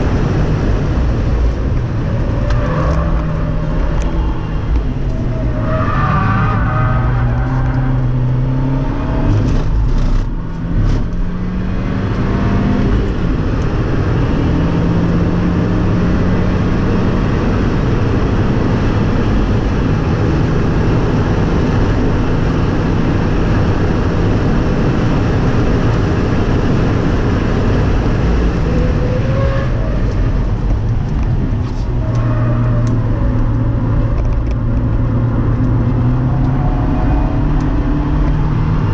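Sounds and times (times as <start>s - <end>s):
car engine driven hard: 0.0s - 38.9s
heavy wind noise: 0.0s - 38.9s.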